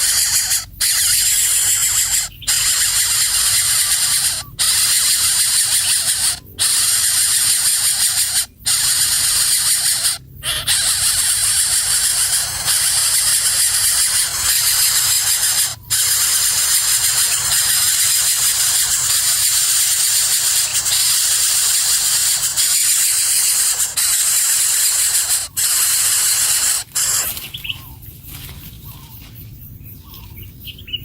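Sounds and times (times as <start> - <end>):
high-pitched hissing noise: 0.0 - 28.4.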